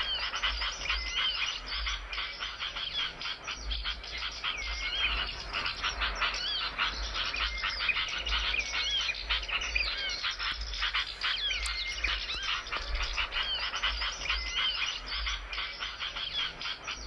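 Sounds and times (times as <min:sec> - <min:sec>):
songbirds chipping and whistling: 0:00.0 - 0:17.0.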